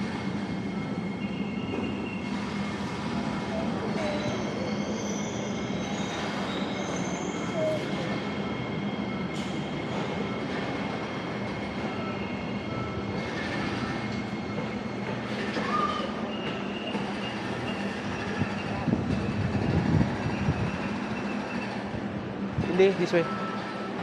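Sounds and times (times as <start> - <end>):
train running hum: 0.0 - 24.0
high wheel squeals: 0.6 - 22.0.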